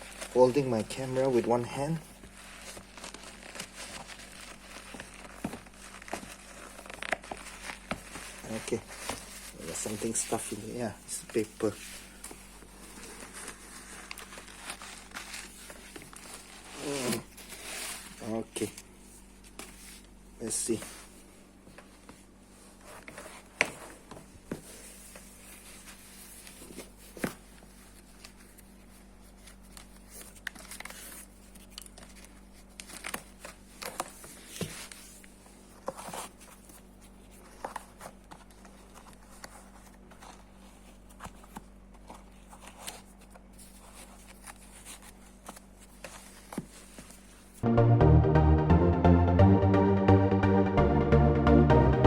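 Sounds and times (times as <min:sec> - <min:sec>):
paper crinkling and rustling: 0:00.0 - 0:47.6.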